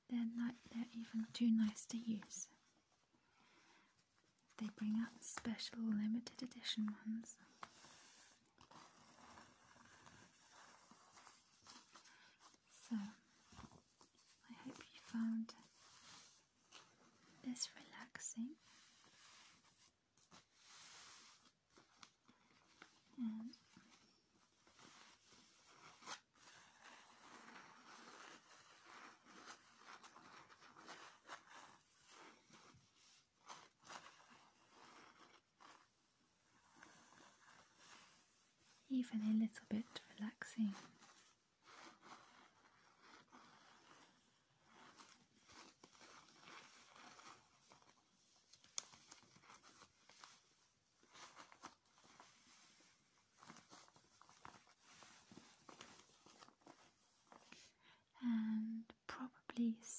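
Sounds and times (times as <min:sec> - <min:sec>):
plastic bag rustling and crinkling: 0:06.6 - 0:57.7.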